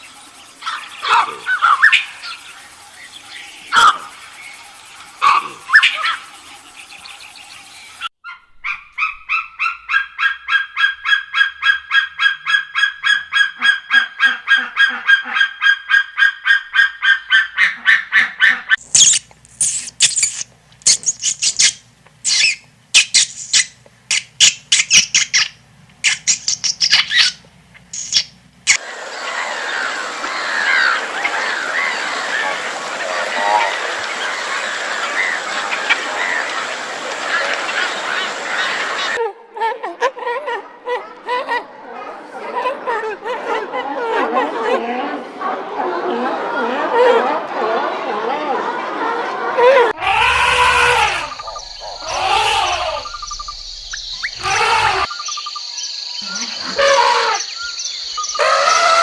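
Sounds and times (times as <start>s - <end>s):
birds calling: 0.0s - 8.1s, 9.0s - 39.2s, 49.9s - 59.0s.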